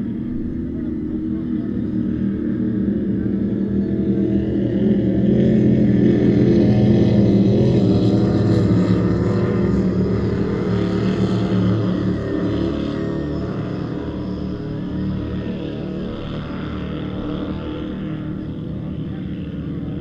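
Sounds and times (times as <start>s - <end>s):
powerboat engines droning: 0.0s - 20.0s.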